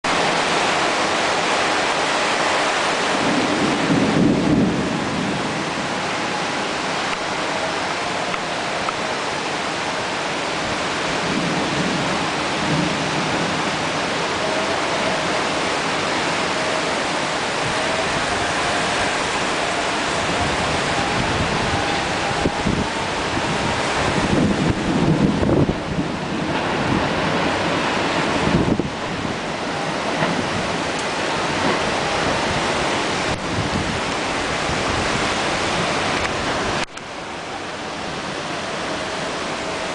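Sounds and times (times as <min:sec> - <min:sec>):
heavy storm rain: 0:00.0 - 0:39.9
wind: 0:00.0 - 0:39.9.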